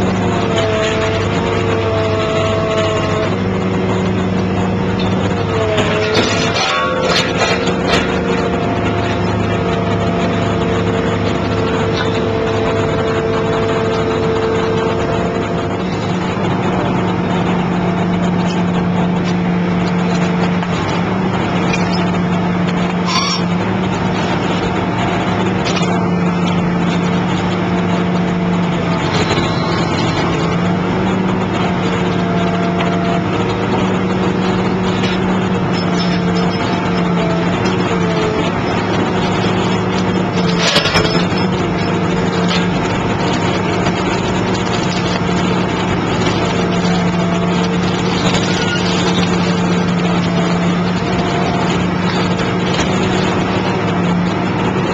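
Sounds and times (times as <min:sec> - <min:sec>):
excavator engine and hydraulics: 0:00.0 - 0:54.9.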